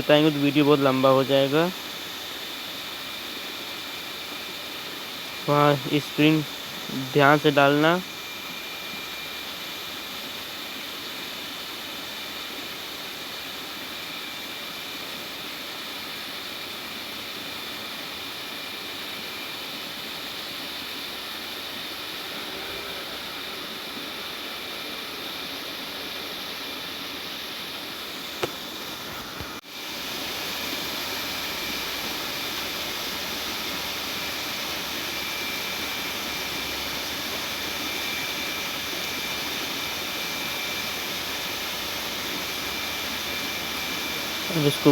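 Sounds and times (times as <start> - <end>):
faint high whine: 0.0 - 44.9.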